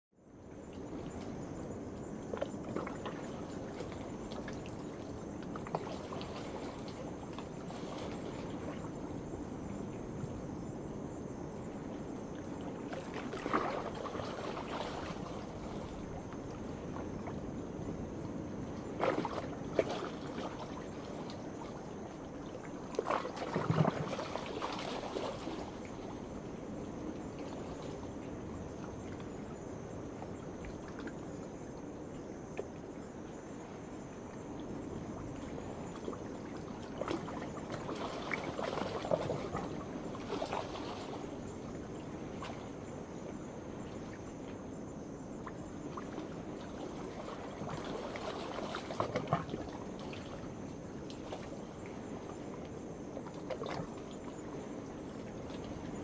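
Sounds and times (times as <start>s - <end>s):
night insects trilling: 0.4s - 56.0s
small waves washing in: 0.7s - 56.0s.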